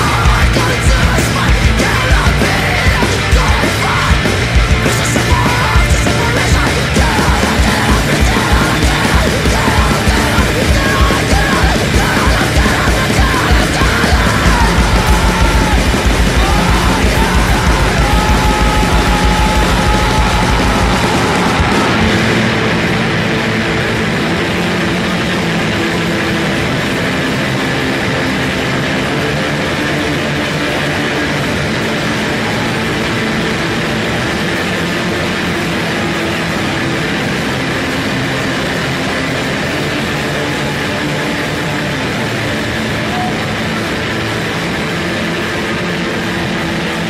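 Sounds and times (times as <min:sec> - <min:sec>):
punk song with distorted guitars: 0:00.0 - 0:47.0.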